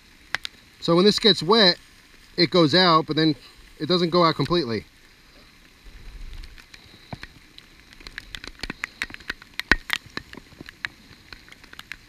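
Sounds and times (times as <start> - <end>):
raindrops tapping: 0.0 - 4.8, 5.6 - 12.0
faint rain hiss: 0.0 - 12.0.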